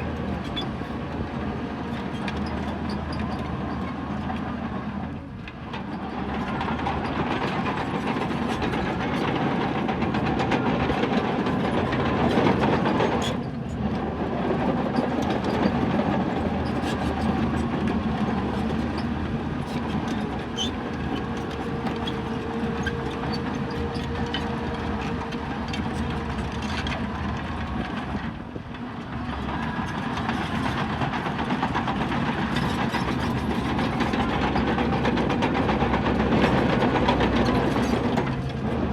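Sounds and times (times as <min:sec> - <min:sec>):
bulldozer diesel engine: 0:00.0 - 0:38.9
steel crawler tracks clanking: 0:00.0 - 0:38.9.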